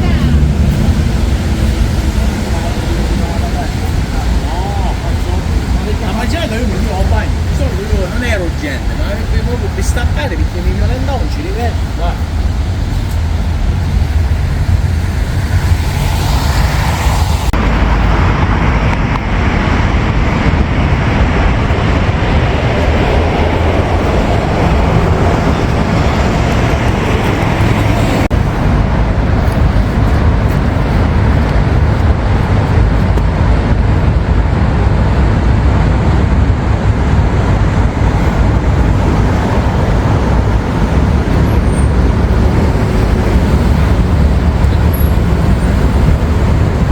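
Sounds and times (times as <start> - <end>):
passing vehicles rumbling: 0.0 - 46.9.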